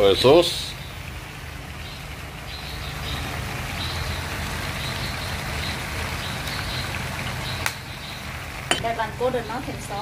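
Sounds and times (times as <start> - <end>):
gas burner rumble and hiss: 0.0 - 10.0.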